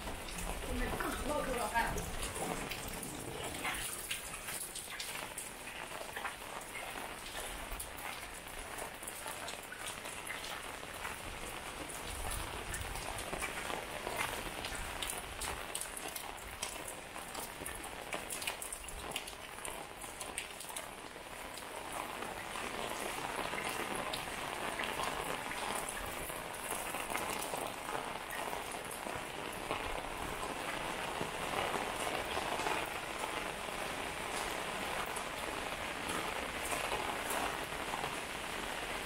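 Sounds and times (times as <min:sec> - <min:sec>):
rain on pavement: 0:00.0 - 0:39.0.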